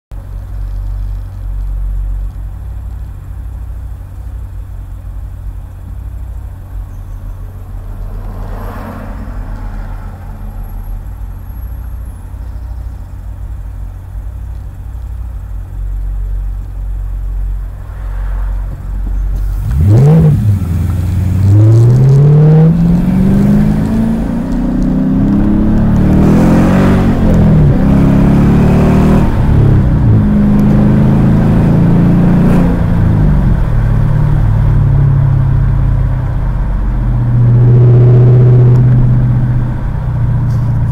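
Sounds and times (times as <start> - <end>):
car engine idling and accelerating: 0.1 - 40.9.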